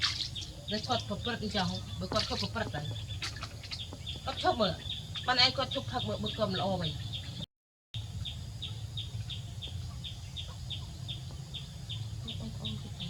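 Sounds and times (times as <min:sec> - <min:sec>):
bird chirping: 0:00.0 - 0:07.4, 0:08.0 - 0:13.0.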